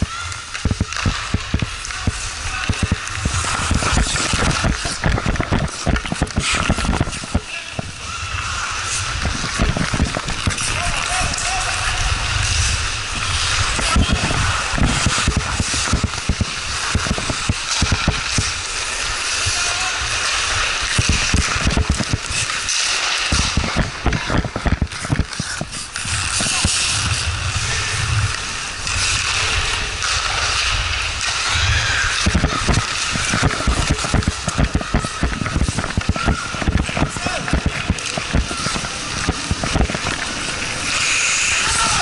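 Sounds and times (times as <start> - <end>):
ice skate blades scraping: 0.1 - 42.0.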